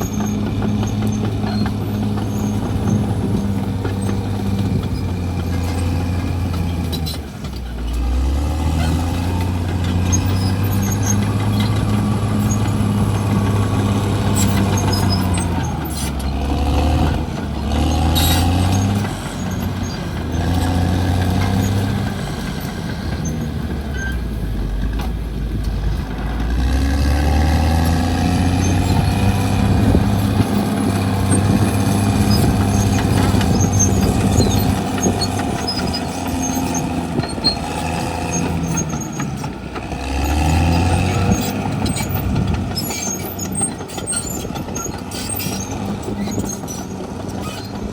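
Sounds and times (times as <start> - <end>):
bulldozer diesel engine working: 0.0 - 47.9.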